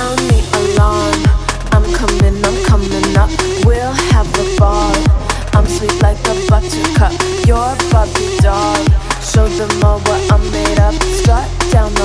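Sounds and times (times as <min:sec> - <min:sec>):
dance music with kick drum: 0:00.0 - 0:12.0.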